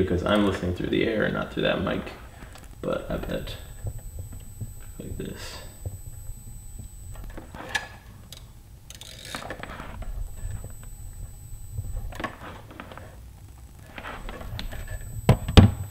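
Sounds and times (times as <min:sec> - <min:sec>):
modem high-pitched whine: 0:00.0 - 0:15.9.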